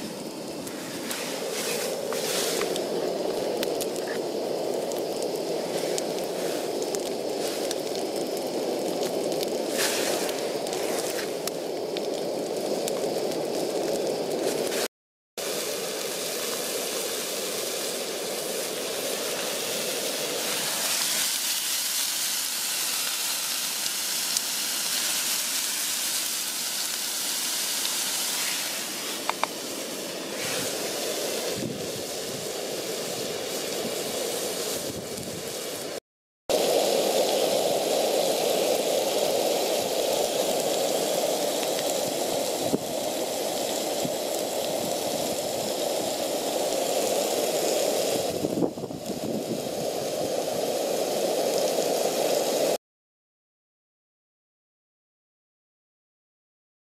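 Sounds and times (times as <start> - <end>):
food sizzling in a frying pan: 0.0 - 52.8.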